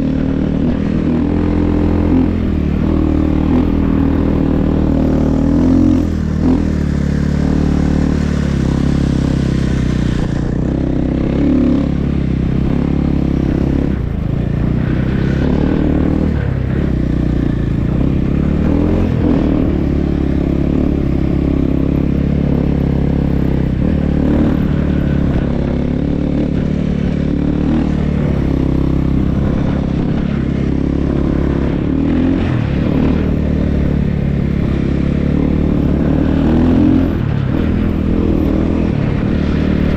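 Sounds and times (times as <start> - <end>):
snow bike engine running: 0.0 - 39.9.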